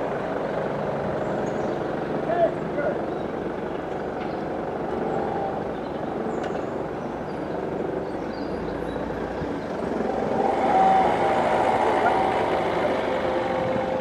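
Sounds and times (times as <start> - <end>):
distant steam train running: 0.0 - 14.0.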